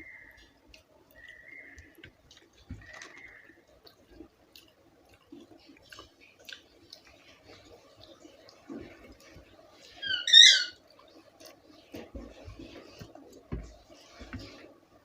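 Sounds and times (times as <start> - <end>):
soft chewing: 0.0 - 10.1, 10.7 - 15.0.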